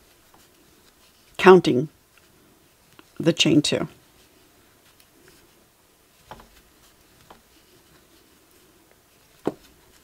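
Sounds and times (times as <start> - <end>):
faint yarn rustling: 0.0 - 10.0.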